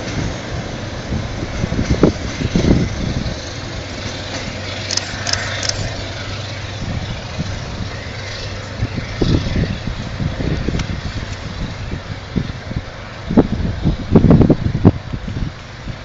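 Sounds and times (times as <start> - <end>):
diesel locomotive humming: 0.0 - 16.0
wind buffeting microphone: 0.0 - 16.0.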